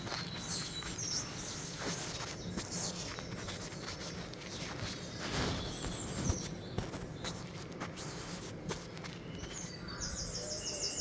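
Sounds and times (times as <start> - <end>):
outdoor ambience: 0.0 - 11.0
small birds chirping: 0.0 - 11.0.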